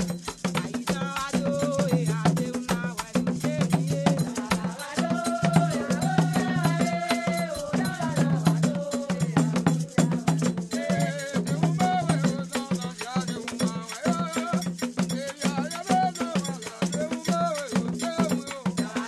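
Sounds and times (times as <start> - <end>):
music with busy percussion: 0.0 - 19.0.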